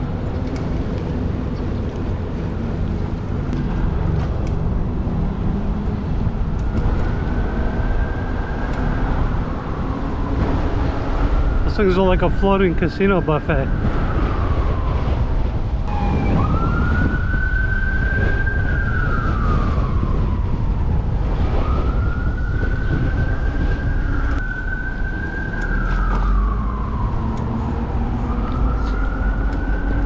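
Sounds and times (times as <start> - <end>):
wind rumbling on microphone: 0.0 - 30.0
emergency vehicle siren wailing: 2.3 - 30.0.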